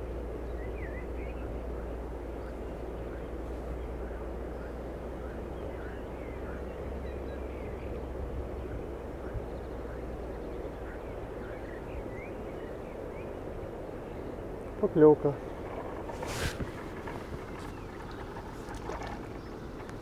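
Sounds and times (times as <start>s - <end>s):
steady wash of noise: 0.0s - 19.0s
constant low rumble: 0.0s - 20.0s
faint chirping calls: 0.0s - 20.0s.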